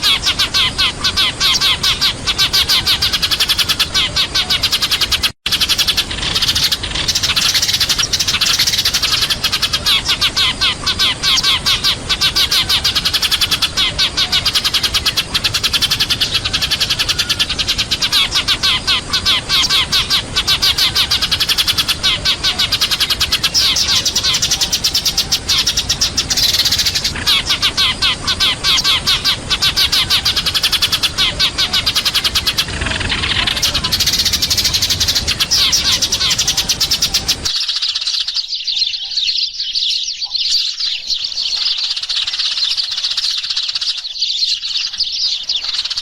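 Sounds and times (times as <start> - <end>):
flock of sparrows chirping: 0.0 - 46.0.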